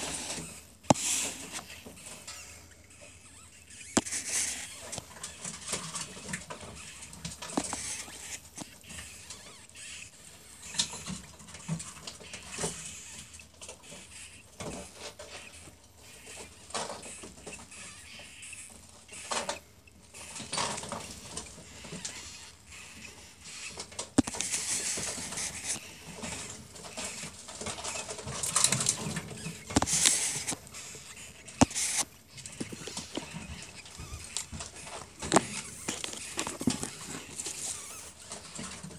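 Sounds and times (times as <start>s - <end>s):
ferret kits squeaking faintly: 0.0s - 38.9s.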